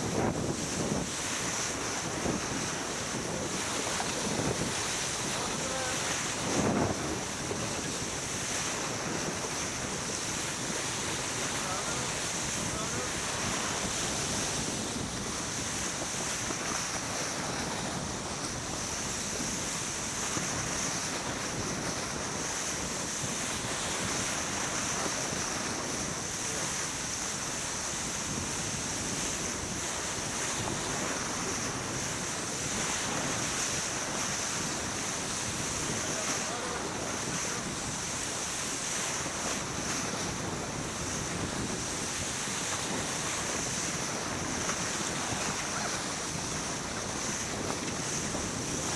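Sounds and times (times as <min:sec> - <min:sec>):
water rushing past boat: 0:00.0 - 0:48.9
wind buffeting microphone: 0:00.0 - 0:48.9.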